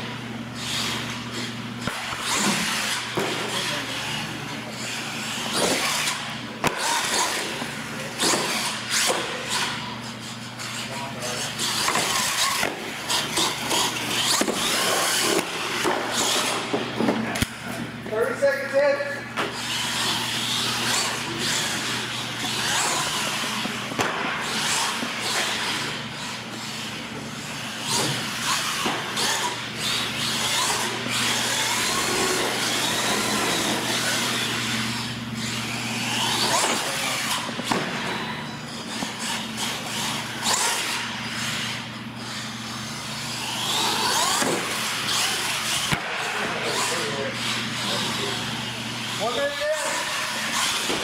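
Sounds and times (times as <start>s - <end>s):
electric motor whining: 0.0s - 17.8s, 19.3s - 51.0s.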